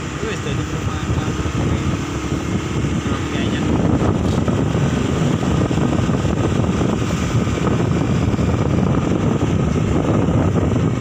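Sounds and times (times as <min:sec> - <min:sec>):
motorbike engine running: 0:00.0 - 0:11.0
wind rush on microphone: 0:00.0 - 0:11.0.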